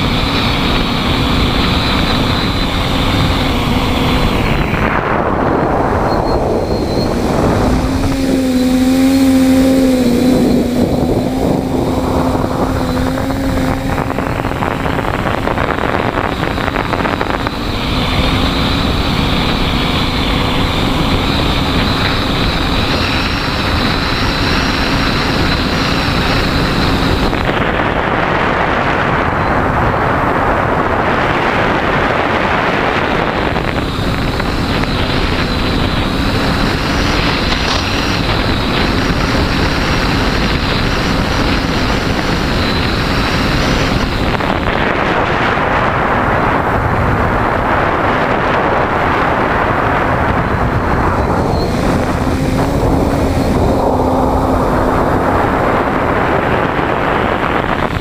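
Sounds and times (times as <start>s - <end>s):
quadcopter motors buzzing: 0.0s - 58.0s
wind on microphone: 0.0s - 58.0s.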